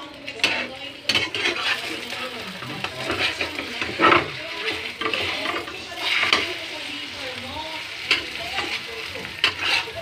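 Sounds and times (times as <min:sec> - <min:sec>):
eggs sizzling in hot oil: 0:00.0 - 0:10.0
metal spatula scraping frying pan: 0:00.2 - 0:10.0.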